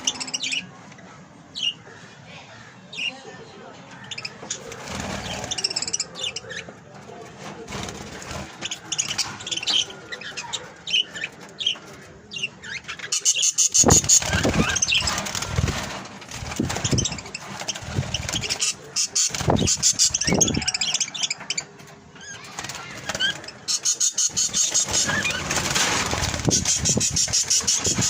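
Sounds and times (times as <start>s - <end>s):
budgerigars chirping and chattering: 0.0s - 2.1s, 2.9s - 28.0s.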